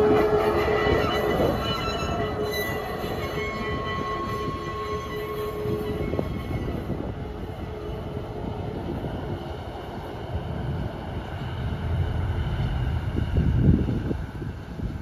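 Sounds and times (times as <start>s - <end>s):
train rolling along track: 0.0s - 15.0s.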